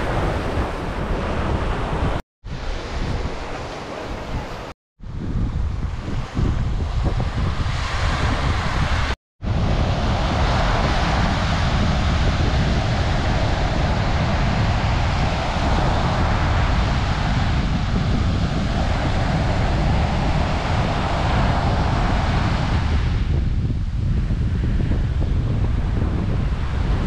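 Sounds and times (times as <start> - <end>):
sea surf: 0.0 - 4.8, 5.7 - 23.3
wind buffeting microphone: 0.0 - 27.0.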